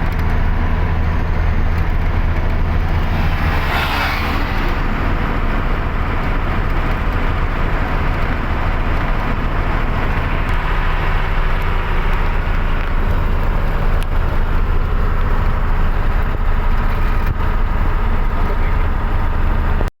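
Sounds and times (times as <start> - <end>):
road noise: 0.0 - 19.9
truck engine droning: 0.0 - 19.9.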